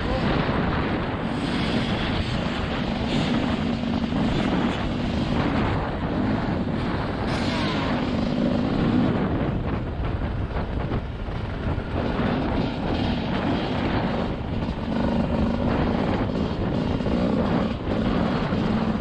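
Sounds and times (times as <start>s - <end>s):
dirt bike engine revving: 0.0s - 9.4s, 11.9s - 19.0s.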